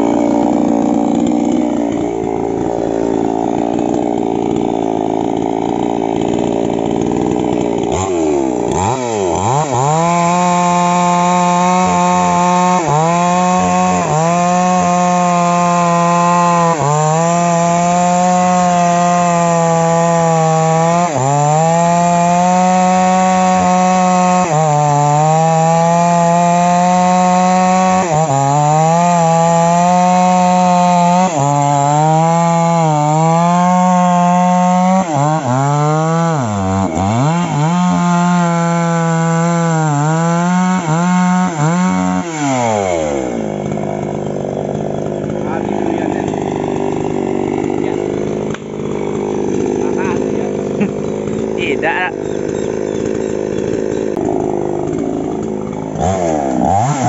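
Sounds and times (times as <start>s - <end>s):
chainsaw cutting into tree trunk: 0.0s - 57.0s.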